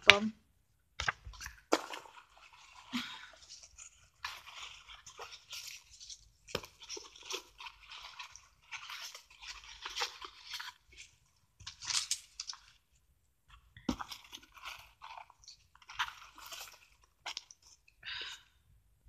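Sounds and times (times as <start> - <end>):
foam and cardboard crinkling: 1.0 - 17.9.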